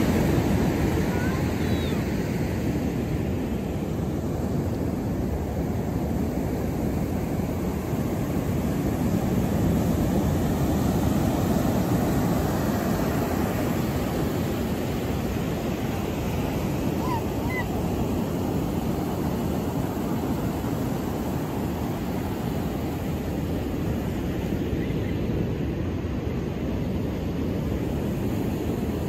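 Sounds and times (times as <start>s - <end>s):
ocean surf breaking: 0.0s - 24.8s.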